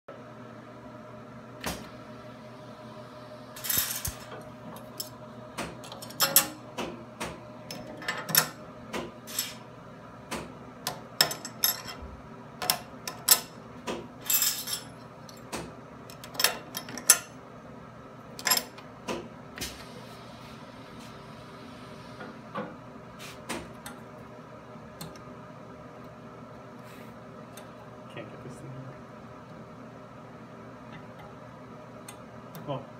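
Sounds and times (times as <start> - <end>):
steady machine hum: 0.1 - 32.9.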